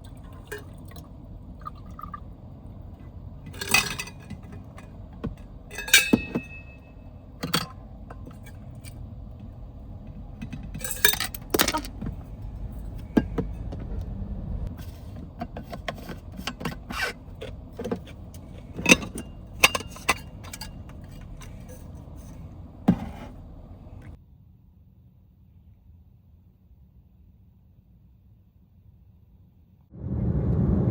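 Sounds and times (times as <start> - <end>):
low steady background hum: 0.0 - 29.9.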